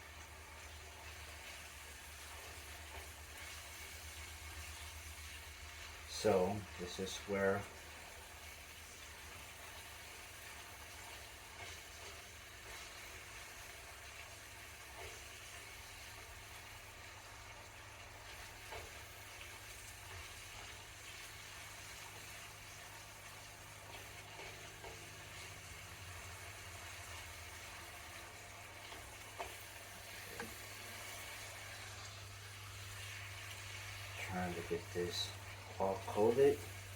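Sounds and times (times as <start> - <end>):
faint sizzle in pan: 0.0 - 36.9.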